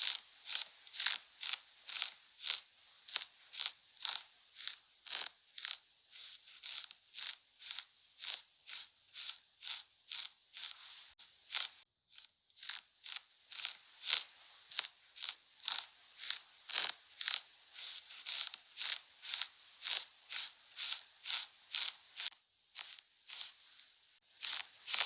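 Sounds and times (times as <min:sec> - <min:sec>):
scratchy makeup tool strokes: 0:00.0 - 0:23.7, 0:24.3 - 0:25.0.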